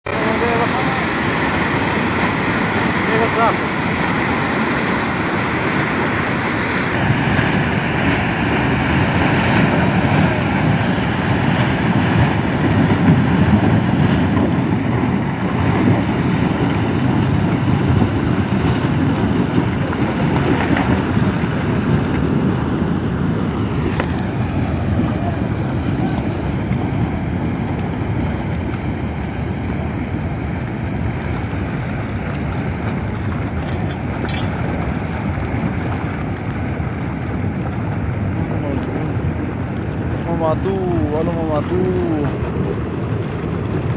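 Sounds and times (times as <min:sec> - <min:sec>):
floodwater rushing: 0:00.1 - 0:43.9.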